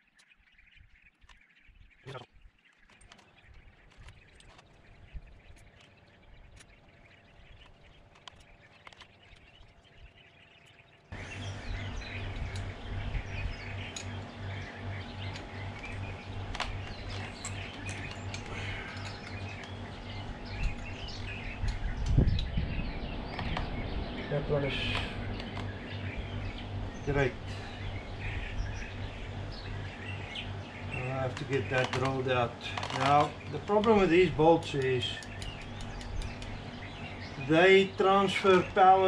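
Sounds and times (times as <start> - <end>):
birds chirping: 0.0 - 39.0
low pulsing hum: 0.0 - 39.0.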